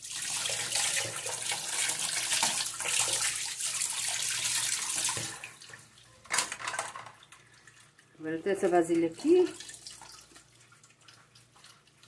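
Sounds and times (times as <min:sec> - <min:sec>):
tap water splashing in sink: 0:00.0 - 0:08.1, 0:09.0 - 0:12.0.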